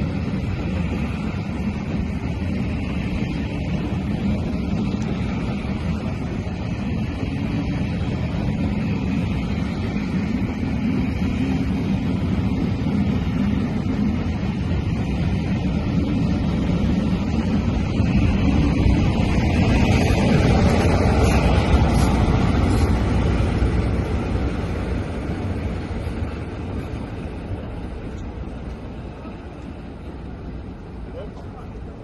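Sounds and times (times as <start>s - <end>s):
diesel locomotive passing: 0.0s - 32.0s
train wheels rumbling on rails: 0.0s - 32.0s.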